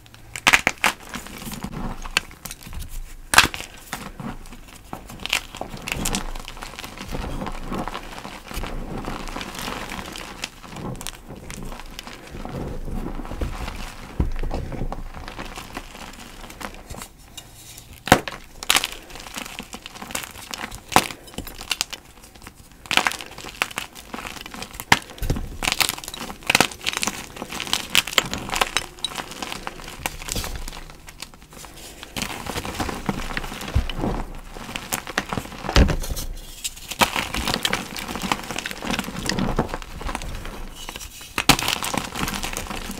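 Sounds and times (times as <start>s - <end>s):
chalk cracking and crunching: 0.0s - 42.9s.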